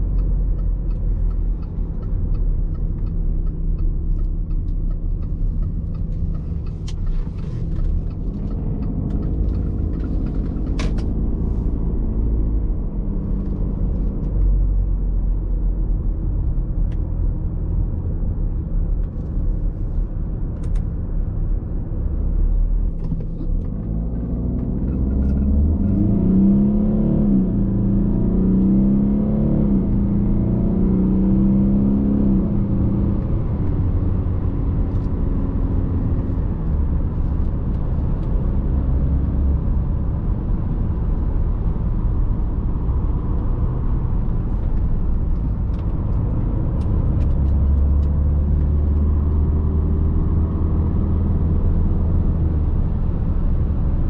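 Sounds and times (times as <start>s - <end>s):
diesel car engine: 0.0s - 54.0s
road and tyre rumble: 0.0s - 54.0s.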